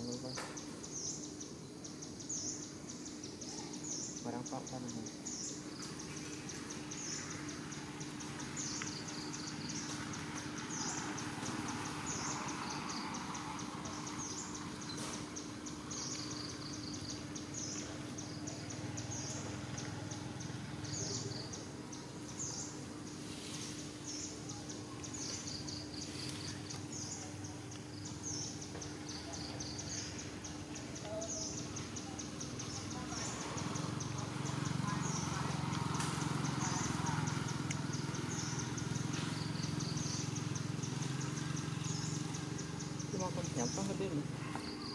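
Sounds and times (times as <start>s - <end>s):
insects calling in pulsing chorus: 0.0s - 44.9s.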